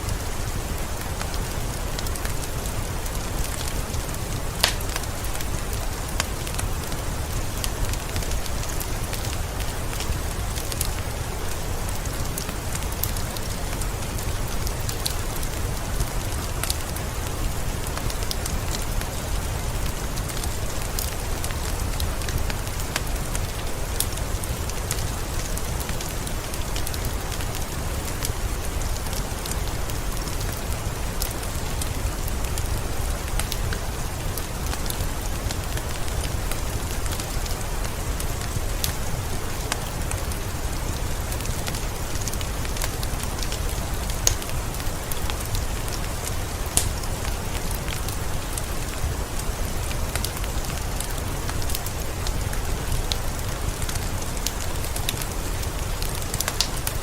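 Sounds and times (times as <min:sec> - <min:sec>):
steady rain hiss: 0:00.0 - 0:57.0
wood fire crackling and popping: 0:00.1 - 0:57.0.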